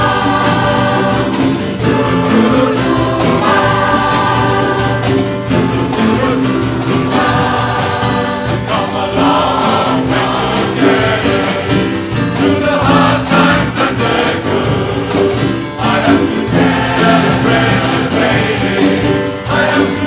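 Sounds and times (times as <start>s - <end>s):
choir singing: 0.0s - 20.0s
percussion band drumming: 0.0s - 20.0s.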